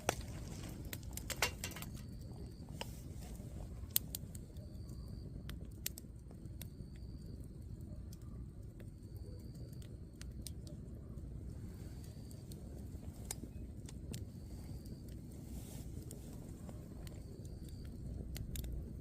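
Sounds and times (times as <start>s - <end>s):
campfire crackling and popping: 0.0s - 19.0s
low steady fire rumble: 0.0s - 19.0s.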